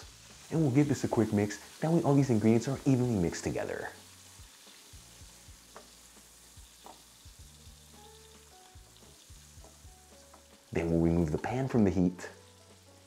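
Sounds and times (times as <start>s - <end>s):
shrimp sizzling in oil: 0.0s - 13.0s.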